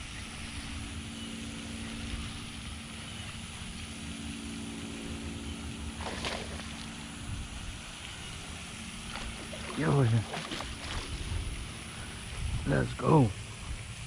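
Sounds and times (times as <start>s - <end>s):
constant low hum: 0.0s - 14.0s
low outdoor rumble: 0.0s - 14.0s.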